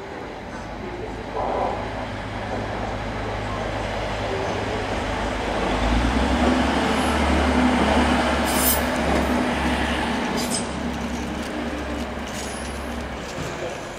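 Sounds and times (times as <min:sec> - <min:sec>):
diesel train engine drone: 0:00.0 - 0:13.9.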